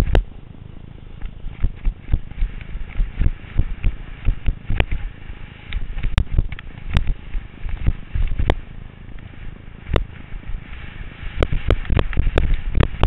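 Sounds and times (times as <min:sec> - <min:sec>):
wind rumbling on microphone: 0:00.0 - 0:13.0
sharp ski knocks and clacks: 0:01.2 - 0:05.1, 0:05.7 - 0:08.6, 0:09.2 - 0:13.0
skis scraping over hard snow: 0:01.6 - 0:13.0.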